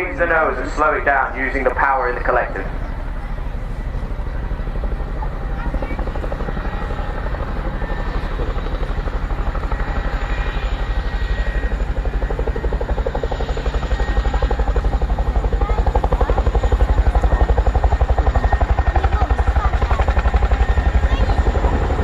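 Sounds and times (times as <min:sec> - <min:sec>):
helicopter rotors beating: 0:00.0 - 0:22.0.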